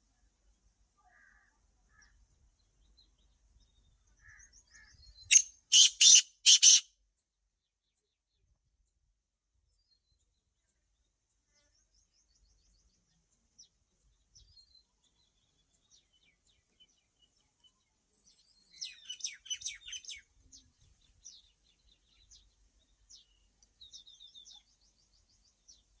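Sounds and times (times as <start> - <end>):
small birds chirping: 1.1 - 6.8, 9.7 - 26.0.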